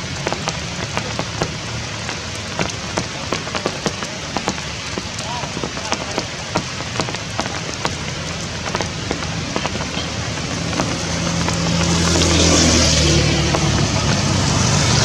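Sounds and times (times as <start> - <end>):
rain drops hitting: 0.0 - 15.0
vehicle engine hum: 0.0 - 15.0.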